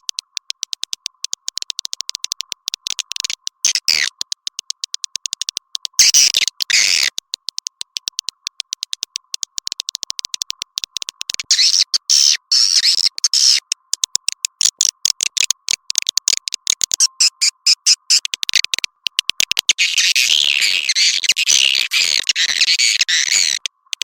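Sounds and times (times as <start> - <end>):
swiftlet chirps and clicks: 0.0 - 24.0.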